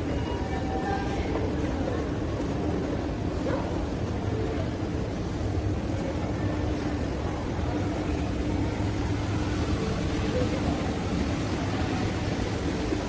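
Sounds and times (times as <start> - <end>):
distant voices: 0.0 - 13.0.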